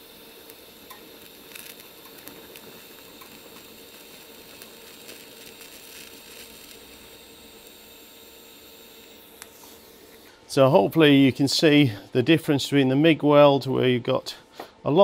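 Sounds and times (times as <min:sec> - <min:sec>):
welding arc hiss: 0:00.0 - 0:12.6.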